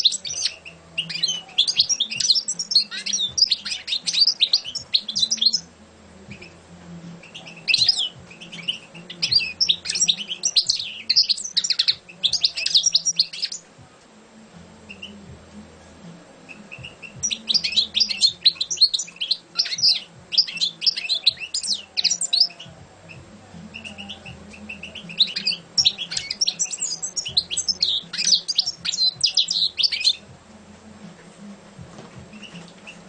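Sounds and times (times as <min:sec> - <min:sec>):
goldfinch twittering song: 0:00.0 - 0:05.7, 0:07.2 - 0:13.7, 0:16.5 - 0:30.3, 0:32.3 - 0:33.0.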